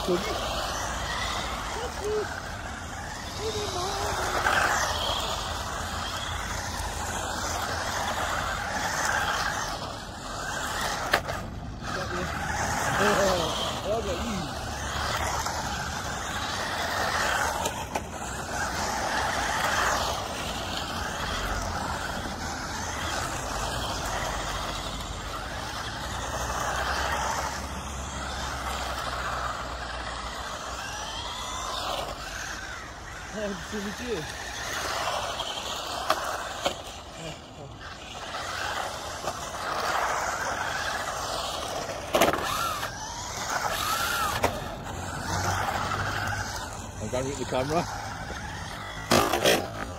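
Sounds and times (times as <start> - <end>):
rc cars buzzing on asphalt: 0.0 - 49.9.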